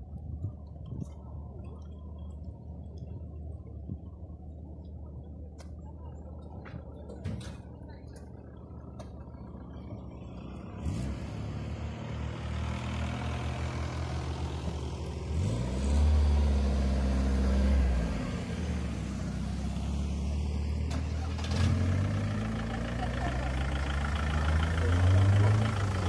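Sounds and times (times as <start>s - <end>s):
vehicle engine idling and revving: 0.0s - 26.0s.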